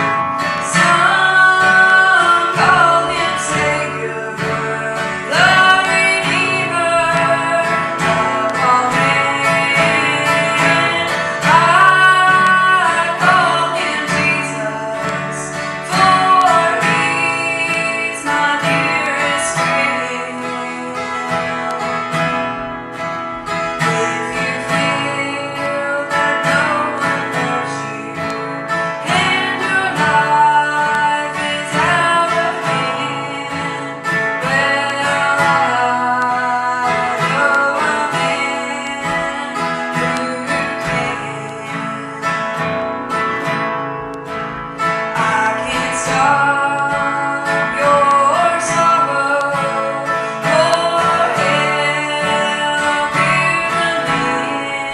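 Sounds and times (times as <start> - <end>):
person singing: 0.0 - 54.9
strummed acoustic guitar: 0.0 - 54.9.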